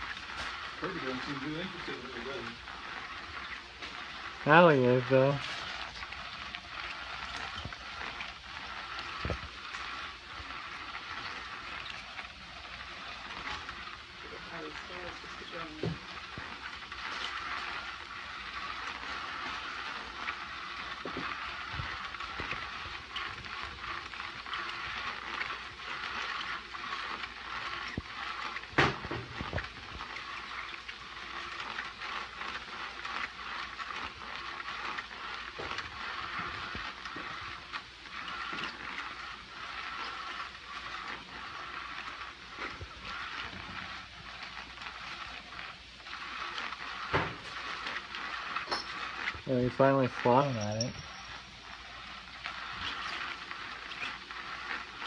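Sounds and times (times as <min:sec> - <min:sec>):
small motor whirring: 0:00.0 - 0:55.0
wand rustling under fabric: 0:01.8 - 0:55.0.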